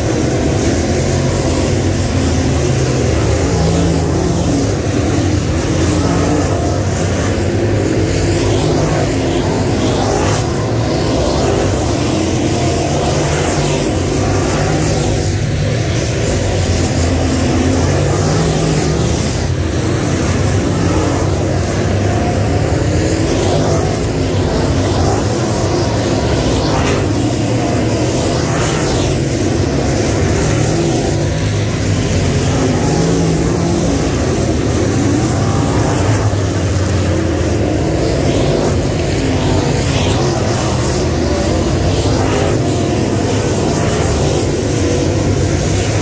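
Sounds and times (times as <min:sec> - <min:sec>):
race car engines roaring: 0:00.0 - 0:46.0.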